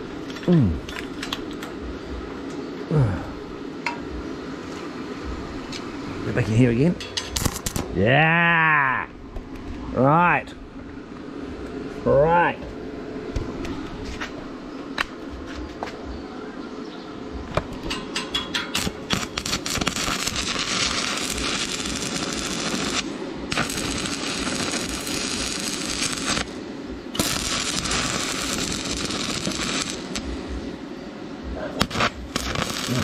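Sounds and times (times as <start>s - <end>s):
arc welding crackling: 0.0s - 16.1s, 17.3s - 33.0s.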